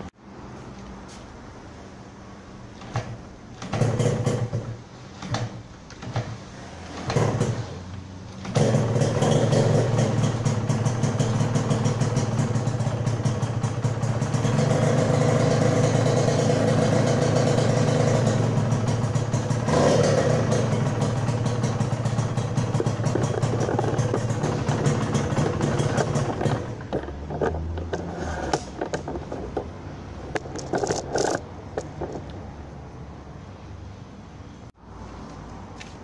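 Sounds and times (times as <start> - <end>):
two-stroke engine starting: 2.8 - 32.3.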